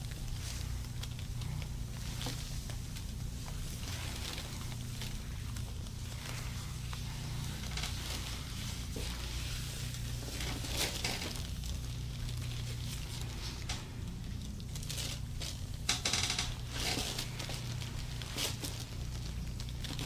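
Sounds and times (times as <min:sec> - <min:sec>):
clothing rustling against table: 0:00.0 - 0:20.0
steady low hum: 0:00.0 - 0:20.0.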